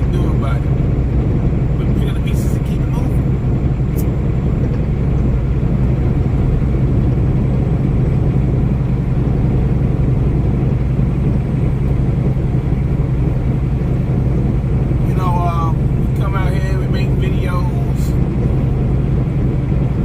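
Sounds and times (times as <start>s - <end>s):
vehicle rumble inside cab: 0.0s - 20.0s.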